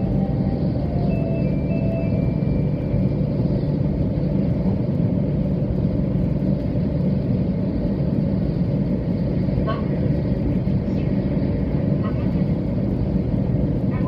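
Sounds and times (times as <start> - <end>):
train rumbling from inside: 0.0 - 14.0.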